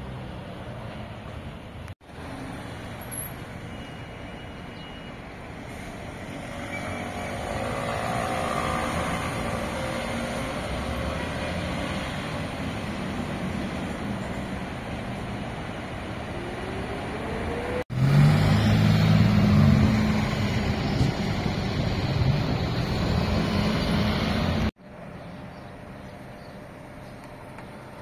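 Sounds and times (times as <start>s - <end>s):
bus engine driving by: 0.0s - 28.0s
street traffic: 0.0s - 28.0s.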